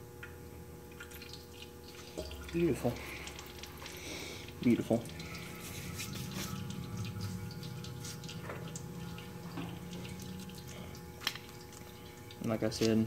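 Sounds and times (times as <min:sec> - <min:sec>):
oil dripping: 0:00.0 - 0:13.0
oil pouring into drain pan: 0:00.9 - 0:13.0.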